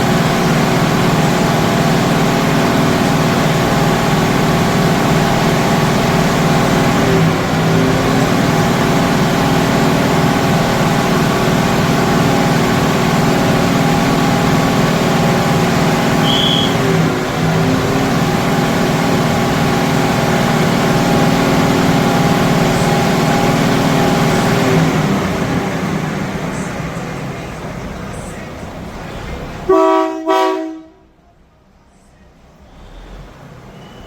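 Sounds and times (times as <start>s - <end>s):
diesel train engine running: 0.0s - 34.0s.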